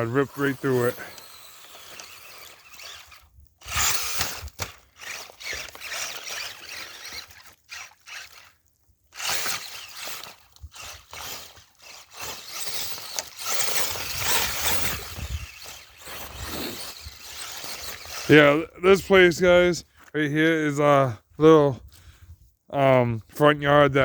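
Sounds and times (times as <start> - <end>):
rc truck driving through mud: 0.0 - 19.8.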